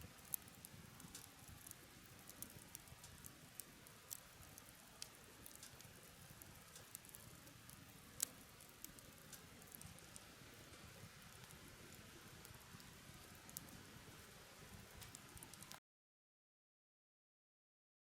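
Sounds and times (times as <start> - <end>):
campfire crackling and popping: 0.0 - 15.8.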